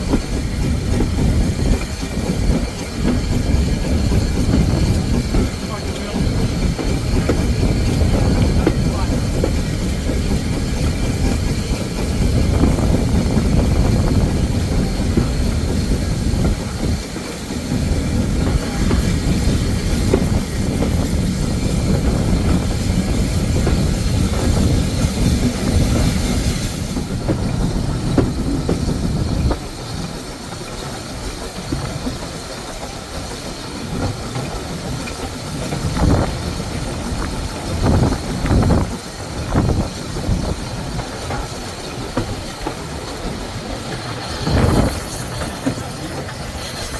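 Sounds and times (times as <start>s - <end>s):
clickety-clack over rail joints: 0.0s - 46.9s
train wheels rumbling on rails: 0.0s - 46.9s.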